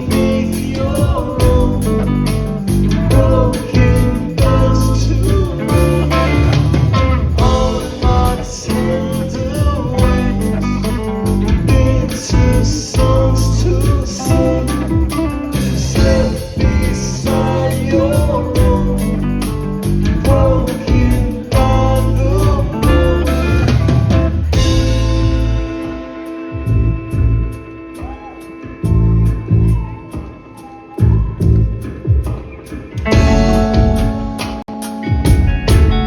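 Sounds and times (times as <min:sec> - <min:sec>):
heavy bass line: 0:00.0 - 0:27.7, 0:28.8 - 0:30.0, 0:33.0 - 0:34.6, 0:35.3 - 0:36.0
rock song with guitar and vocals: 0:00.0 - 0:36.0.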